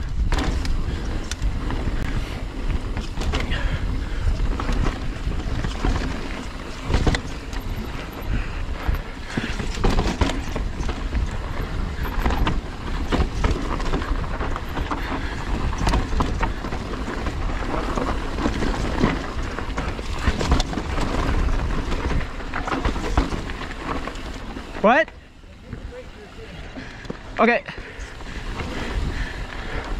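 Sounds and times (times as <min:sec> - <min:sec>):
bike knocking and rattling: 0:00.0 - 0:29.9
tyre and wind noise: 0:00.0 - 0:29.9.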